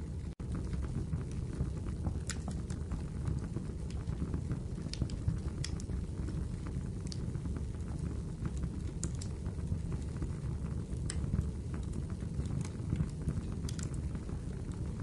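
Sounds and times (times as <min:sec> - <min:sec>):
fireplace fire crackling: 0:00.0 - 0:15.0
fire pops and snaps: 0:00.1 - 0:15.0.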